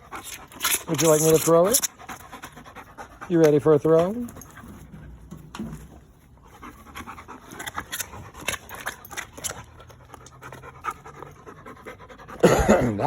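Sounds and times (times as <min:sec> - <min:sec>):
dog panting: 0:00.0 - 0:05.3, 0:06.1 - 0:13.0.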